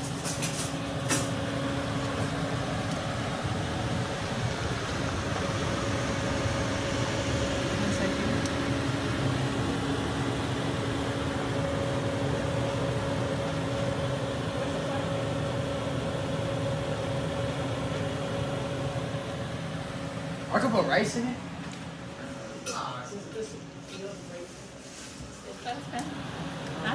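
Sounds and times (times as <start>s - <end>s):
range hood exhaust fan whirring: 0.0s - 26.9s.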